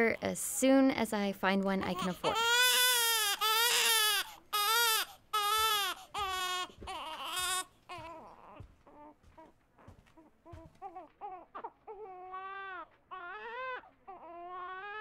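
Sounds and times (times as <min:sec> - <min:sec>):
infant crying: 0:01.9 - 0:09.5, 0:10.5 - 0:15.0.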